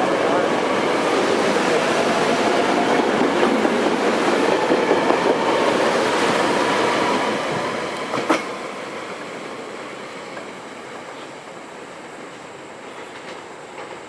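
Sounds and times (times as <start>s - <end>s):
train rolling past: 0.0s - 14.0s.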